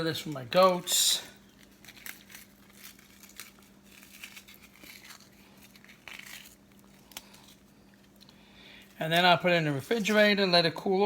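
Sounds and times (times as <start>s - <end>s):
faint steady hum: 0.0s - 11.0s
light rustling and crinkling: 1.5s - 10.5s.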